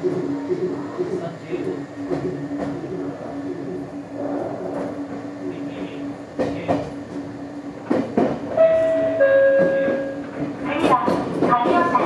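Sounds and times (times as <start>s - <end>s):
electric train hum: 0.0s - 12.0s.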